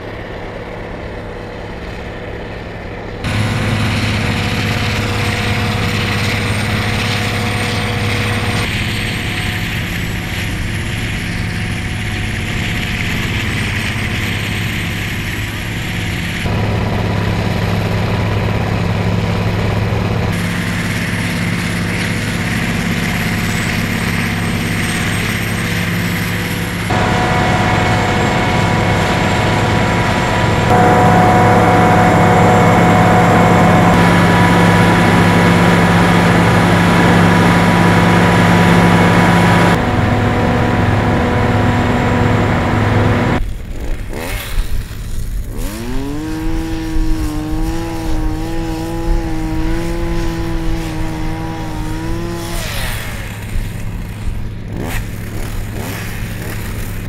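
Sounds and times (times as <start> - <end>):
snowplow engine hum: 0.0 - 57.0.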